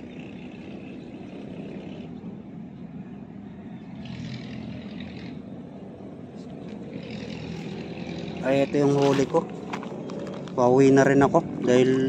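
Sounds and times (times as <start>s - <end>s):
distant engine humming: 0.0s - 12.0s
rushing background noise: 0.0s - 12.0s.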